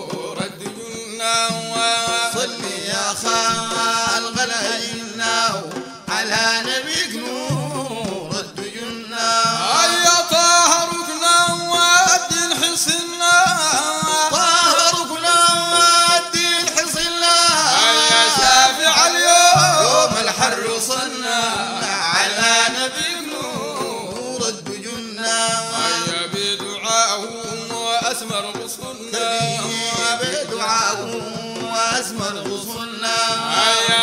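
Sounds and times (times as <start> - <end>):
man singing praise song: 0.0 - 34.0.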